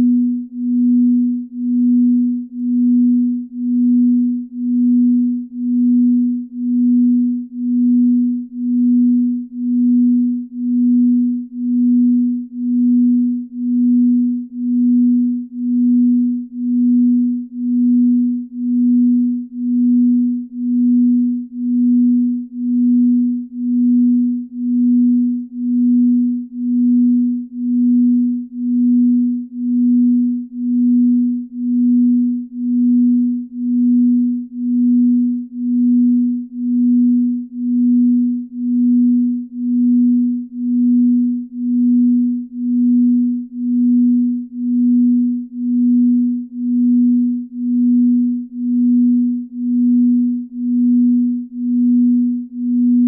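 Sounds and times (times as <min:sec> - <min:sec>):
low pulsing sine tone: 0:00.0 - 0:53.0.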